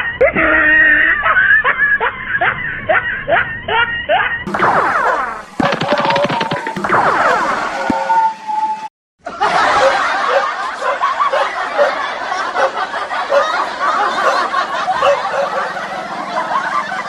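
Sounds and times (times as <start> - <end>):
crowd laughing: 0.0 - 7.6, 9.2 - 17.0.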